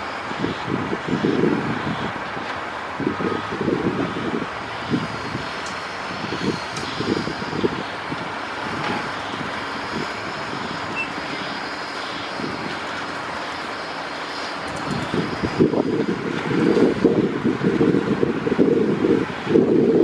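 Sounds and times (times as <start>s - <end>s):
construction machinery drone: 0.0s - 20.0s
wind buffeting microphone: 0.0s - 20.0s.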